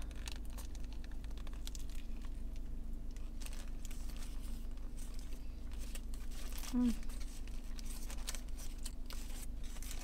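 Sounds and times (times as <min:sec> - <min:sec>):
paper wrapper rustling: 0:00.0 - 0:10.0
steady low hum: 0:00.0 - 0:10.0.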